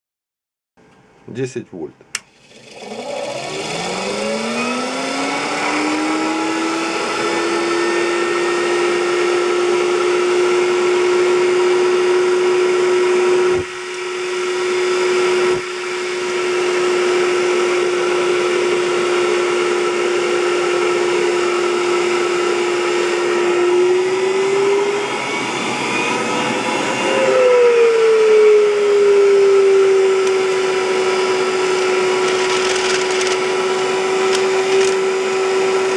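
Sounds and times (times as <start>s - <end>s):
electric blower whine: 2.1s - 35.9s.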